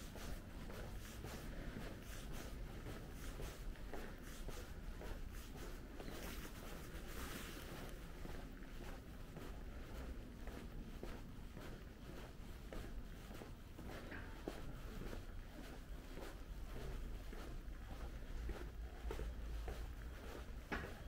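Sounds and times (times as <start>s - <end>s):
faint outdoor rumble: 0.0s - 21.0s
footsteps walking: 0.0s - 21.0s.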